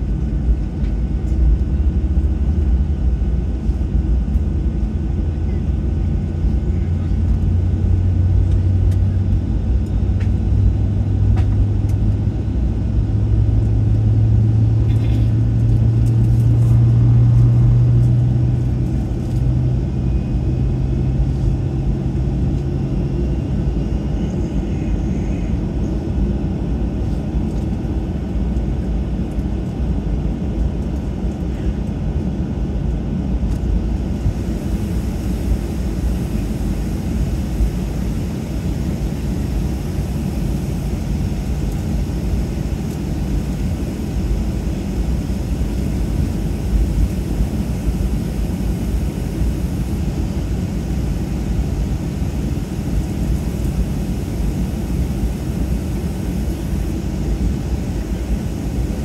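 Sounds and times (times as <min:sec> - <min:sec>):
airplane cabin rumble: 0:00.0 - 0:59.0
low hum: 0:00.0 - 0:59.0.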